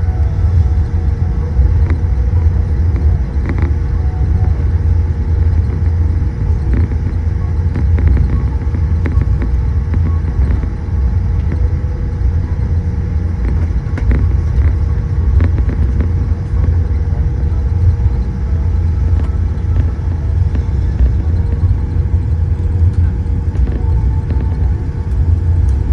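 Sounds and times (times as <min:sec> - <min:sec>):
aircraft cabin rumble and hum: 0:00.0 - 0:25.9
faint clicks and rattles: 0:01.6 - 0:11.7, 0:13.3 - 0:25.9.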